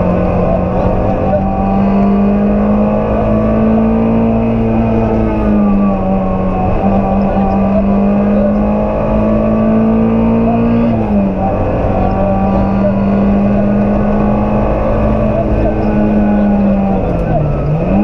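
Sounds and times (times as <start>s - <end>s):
rally car engine at high revs: 0.0s - 18.0s.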